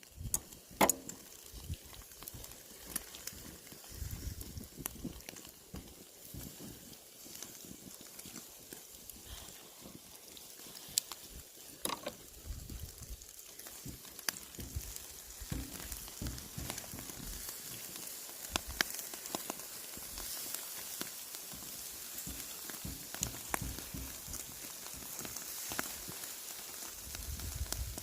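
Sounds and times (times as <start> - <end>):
meat sizzling on a grill: 0.0 - 28.0
sharp pops and crackles: 0.0 - 28.0.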